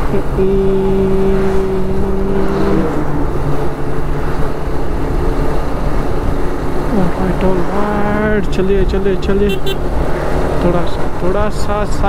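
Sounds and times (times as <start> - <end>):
steady tone: 0.0 - 10.6
motorcycle engine cruising: 0.0 - 12.0
road and wind noise: 0.0 - 12.0.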